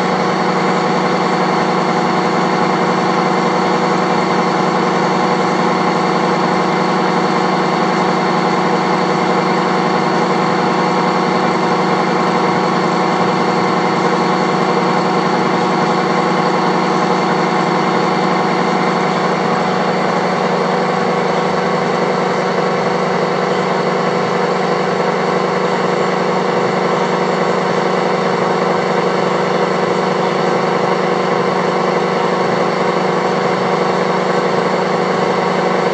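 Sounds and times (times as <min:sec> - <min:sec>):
boring mill machine hum: 0:00.0 - 0:35.9.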